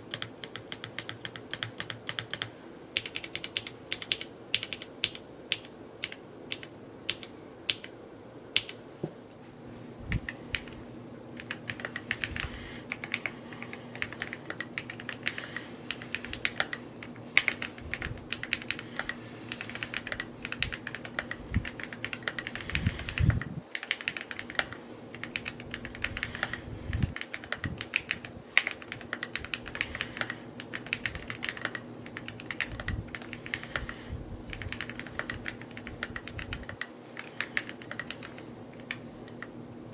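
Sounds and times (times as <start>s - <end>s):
mechanical keyboard typing: 0.0s - 7.9s, 11.4s - 39.5s.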